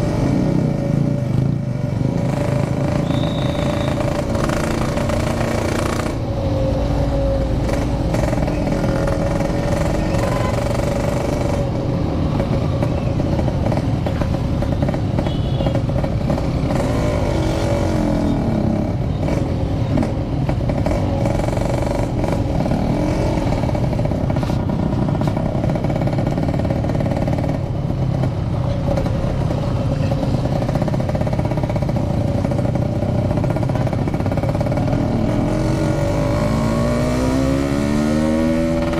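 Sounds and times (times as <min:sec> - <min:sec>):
motorcycle engine running: 0:00.0 - 0:36.5
wind and road noise: 0:00.0 - 0:38.9.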